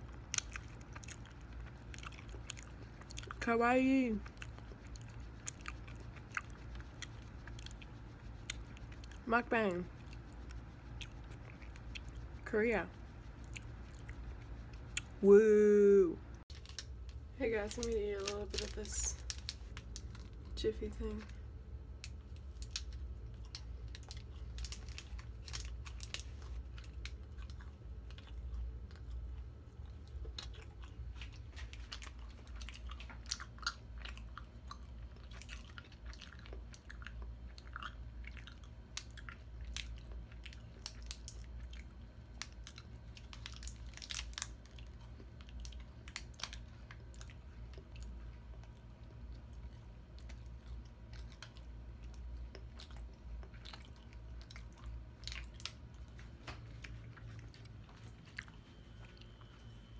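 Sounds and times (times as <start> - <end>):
person chewing crunchy snack: 0.0 - 3.4, 4.2 - 9.2, 9.8 - 12.4, 13.0 - 15.2, 21.8 - 59.8
low hum: 0.0 - 59.9.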